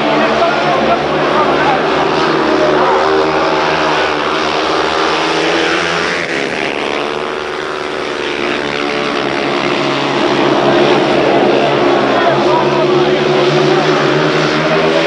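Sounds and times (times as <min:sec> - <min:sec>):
motorcycles racing: 0:00.0 - 0:15.0.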